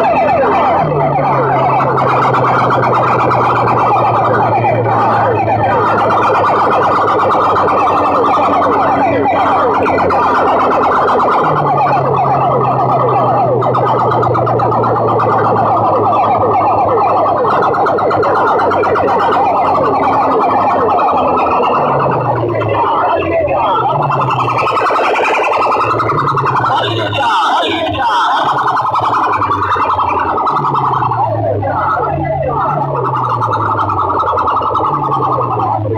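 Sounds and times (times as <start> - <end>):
distorted electronic music over loudspeakers: 0.0 - 35.9.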